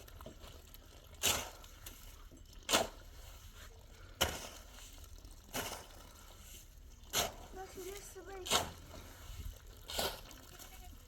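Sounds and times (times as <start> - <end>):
shovel scraping packed snow and ice: 1.2 - 10.9.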